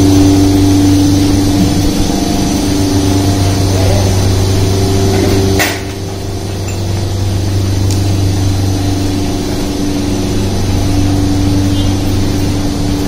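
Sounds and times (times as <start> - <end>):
mechanical motor hum: 0.0 - 13.0.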